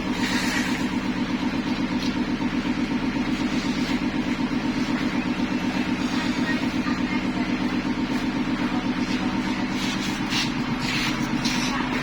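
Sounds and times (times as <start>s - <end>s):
machinery motor humming and pulsing: 0.0s - 12.0s.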